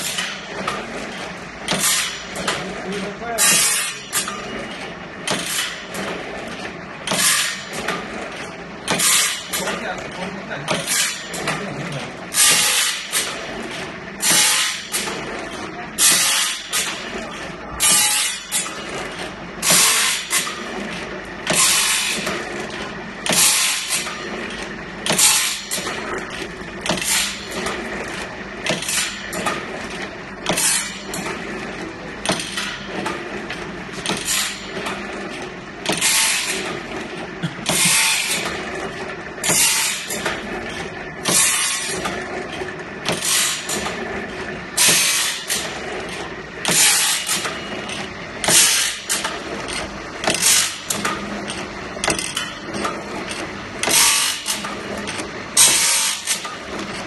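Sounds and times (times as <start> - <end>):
motor hum: 0.0 - 57.0.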